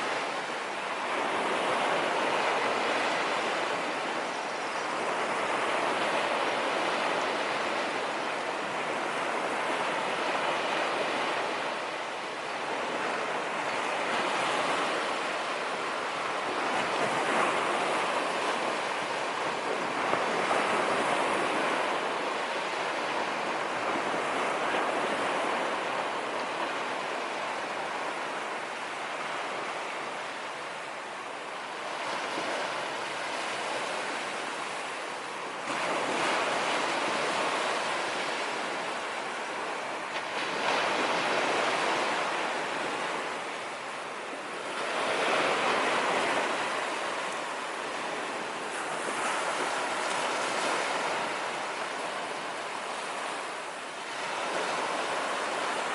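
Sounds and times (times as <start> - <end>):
sea waves breaking on beach: 0.0 - 55.9.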